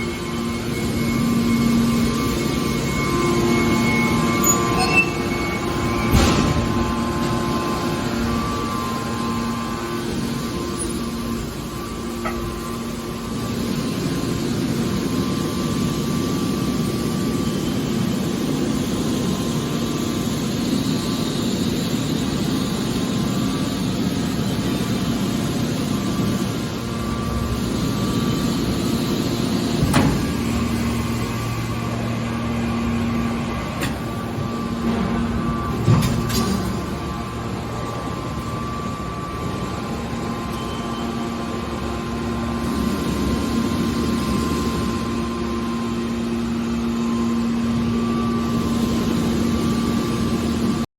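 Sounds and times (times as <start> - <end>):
machine humming: 0.0 - 50.9.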